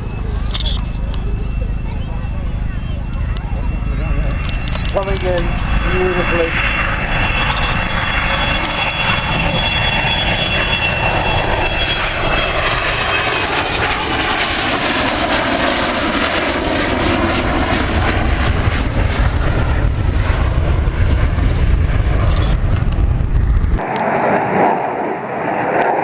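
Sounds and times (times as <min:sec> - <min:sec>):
aircraft engines flying past: 0:00.0 - 0:26.0
high engine whine: 0:00.0 - 0:26.0.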